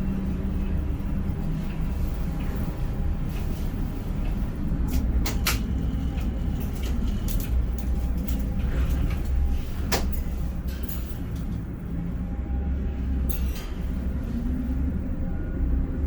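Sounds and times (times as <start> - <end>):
crane running with low rumble: 0.0 - 16.0.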